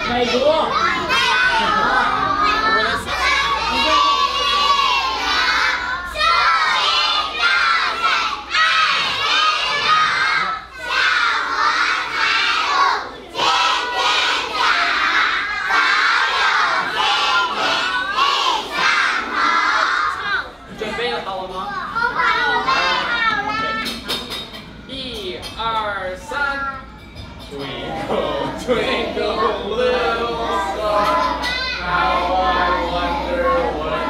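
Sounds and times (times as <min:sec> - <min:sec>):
children shouting: 0:00.0 - 0:24.3, 0:28.7 - 0:34.0.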